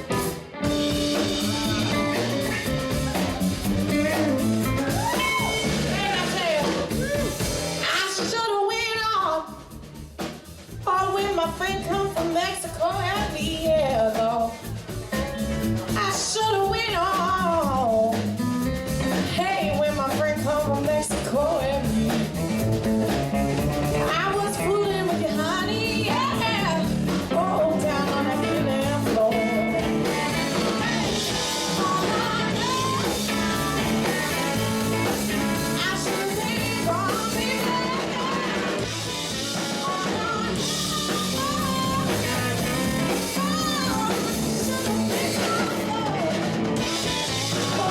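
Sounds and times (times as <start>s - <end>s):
rock music with singing: 0.0s - 47.9s.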